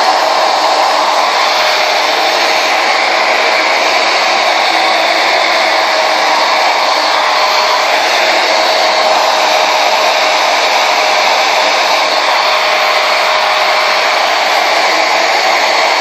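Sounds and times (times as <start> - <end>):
blow dryer rushing air: 0.0 - 16.0.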